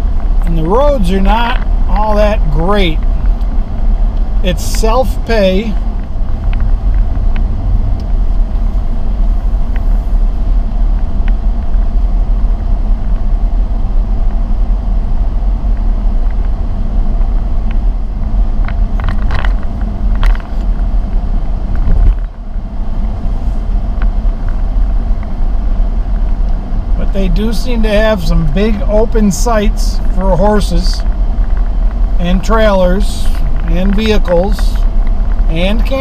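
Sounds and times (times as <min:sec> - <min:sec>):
car rumbling over rough road: 0:00.0 - 0:36.0.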